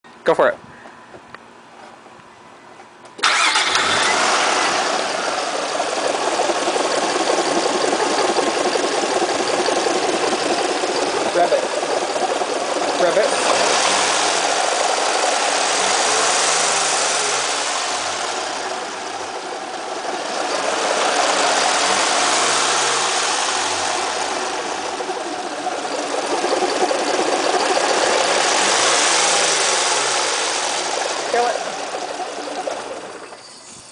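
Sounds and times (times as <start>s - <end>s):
strange engine noise: 3.1s - 33.9s
car engine running: 3.2s - 33.4s.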